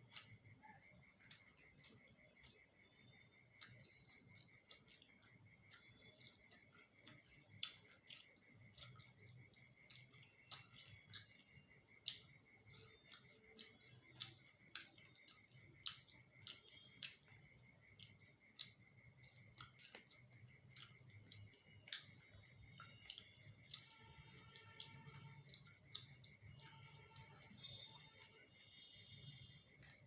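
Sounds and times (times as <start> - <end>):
chewing mouth clicks and smacks: 0.0 - 30.0
faint high-pitched whine: 0.0 - 30.0.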